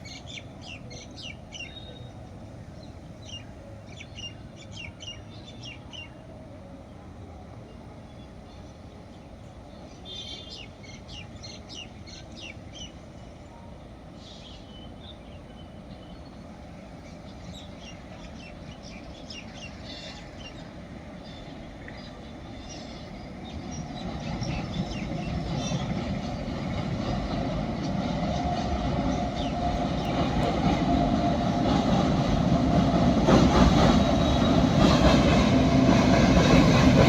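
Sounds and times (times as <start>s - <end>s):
freight train rumbling: 0.0s - 37.0s.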